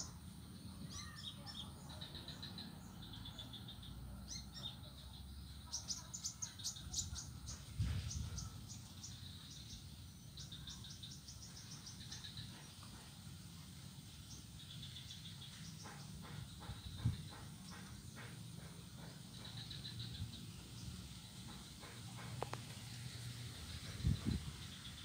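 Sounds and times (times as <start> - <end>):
birds chirping: 0.0 - 25.0
insects trilling: 0.0 - 25.0.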